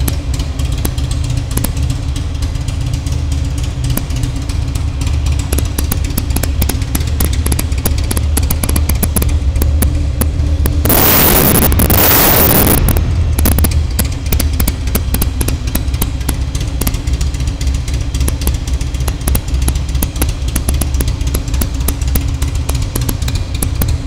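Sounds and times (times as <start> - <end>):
motorcycle engine idling: 0.0 - 24.0
motorcycle engine revving: 0.0 - 24.0.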